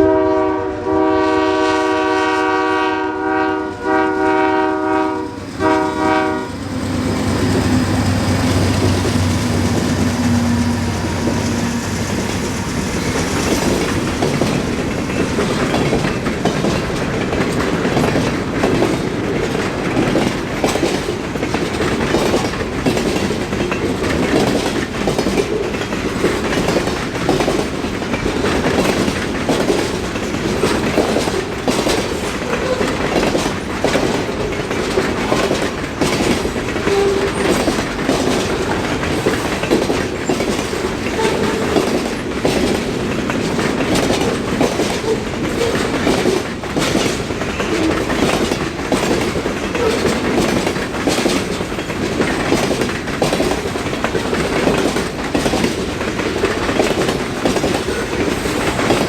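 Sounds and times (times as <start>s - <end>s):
freight train cars rumbling past: 0.0s - 59.0s
wheels clicking over rail joints: 5.3s - 59.0s.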